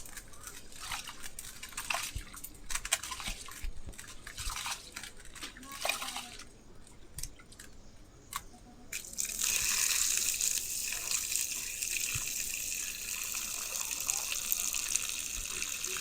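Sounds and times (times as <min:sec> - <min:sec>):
water pouring from tap: 0:00.0 - 0:06.5, 0:08.9 - 0:16.0
light clicks and drips: 0:00.0 - 0:16.0.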